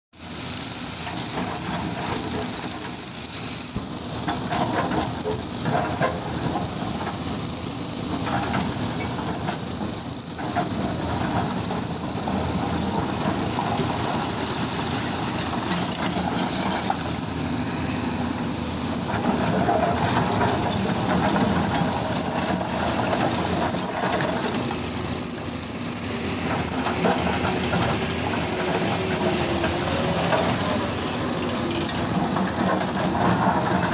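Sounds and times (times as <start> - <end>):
excavator diesel engine running: 0.2 - 33.9.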